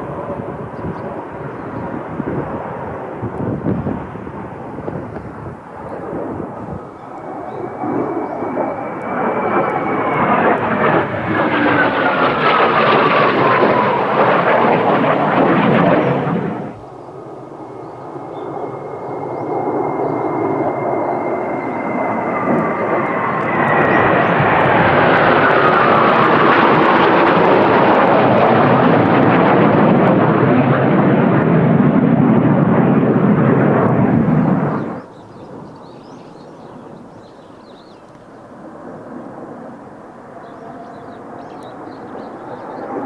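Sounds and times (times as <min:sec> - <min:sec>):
distant jet rumble: 0:00.0 - 0:43.0
jet roar passing overhead: 0:00.0 - 0:43.0.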